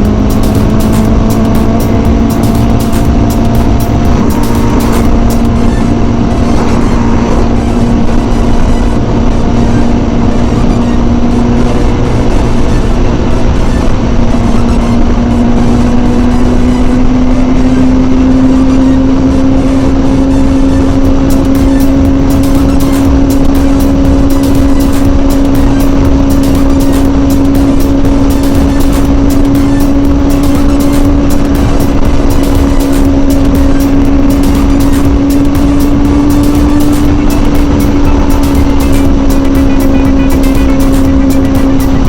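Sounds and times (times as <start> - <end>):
motorcycle engine at high revs: 0.0 - 42.0
wind rushing: 0.0 - 42.0.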